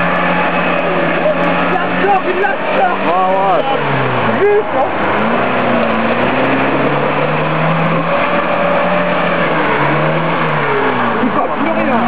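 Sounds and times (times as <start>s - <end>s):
engine running at high revs: 0.0s - 12.0s.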